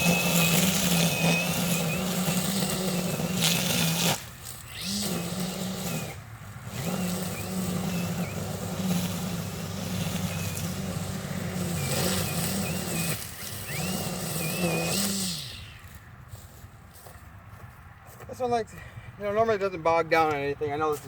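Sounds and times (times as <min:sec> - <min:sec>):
electric string trimmer cutting grass: 0:00.0 - 0:17.1.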